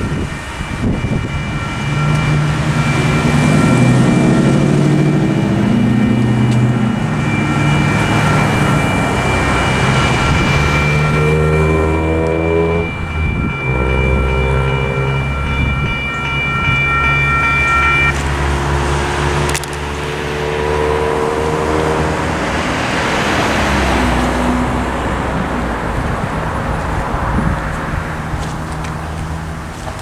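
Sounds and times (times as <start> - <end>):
electronic crossing bell ringing: 0.0 - 25.5
diesel locomotives droning: 0.0 - 30.0.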